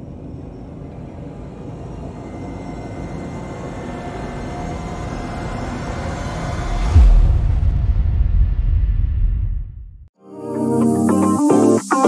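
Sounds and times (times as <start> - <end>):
low rumble riser: 0.1 - 10.1.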